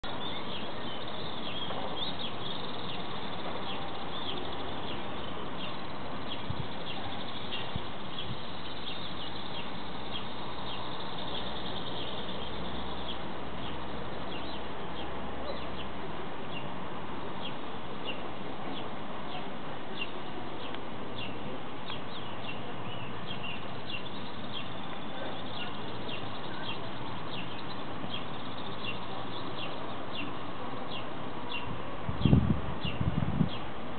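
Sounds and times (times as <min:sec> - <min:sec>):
small birds chirping: 0:00.0 - 0:33.7
steady background hiss: 0:00.0 - 0:33.9.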